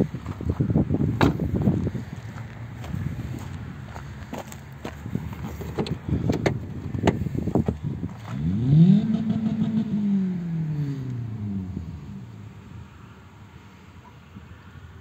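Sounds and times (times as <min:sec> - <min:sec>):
vehicle engine revving: 0:00.8 - 0:13.4.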